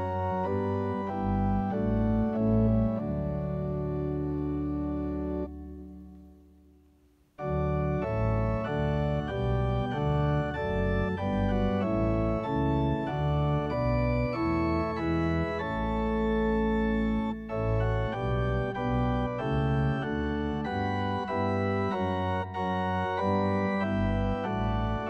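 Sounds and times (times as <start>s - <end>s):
organ music: 0.0s - 6.4s, 7.4s - 25.0s.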